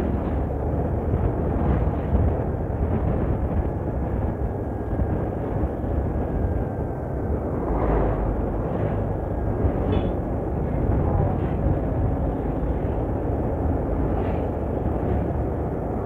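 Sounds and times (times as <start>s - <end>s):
road and traffic noise: 0.0s - 16.0s
wind buffeting microphone: 0.0s - 16.0s.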